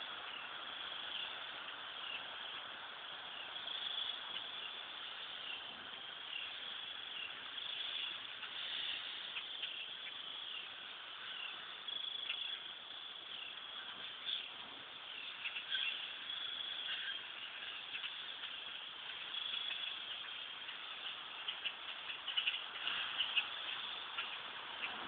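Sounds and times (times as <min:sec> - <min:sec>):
flock of birds chirping: 0:00.0 - 0:25.0.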